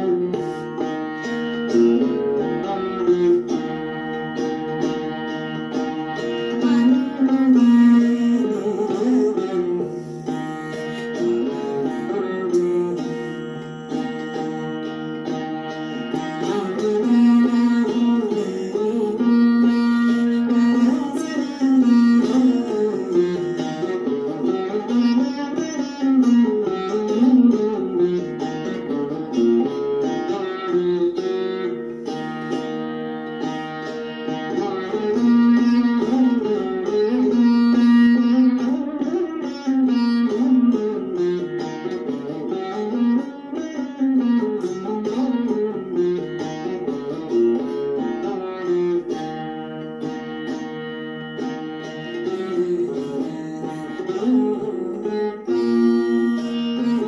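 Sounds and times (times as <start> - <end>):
veena melody: 0.0 - 57.0.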